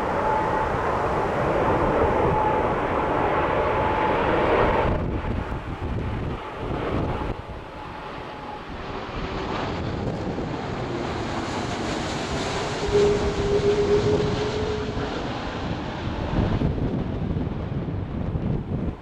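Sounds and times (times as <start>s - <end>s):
jet engine roar overhead: 0.0s - 19.0s.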